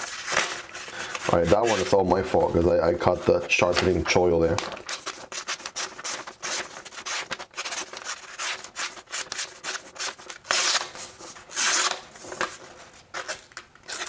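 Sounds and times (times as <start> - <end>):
paper rustle: 0.0 - 14.0.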